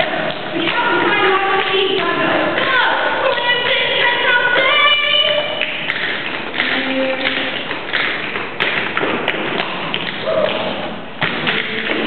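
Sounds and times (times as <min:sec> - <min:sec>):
tap shoes tapping on stage: 0:00.0 - 0:12.0.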